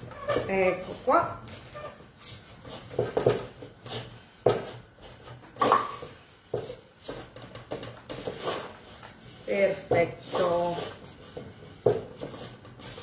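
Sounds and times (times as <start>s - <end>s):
rolling pin cutting dough on wires: 2.5s - 13.0s.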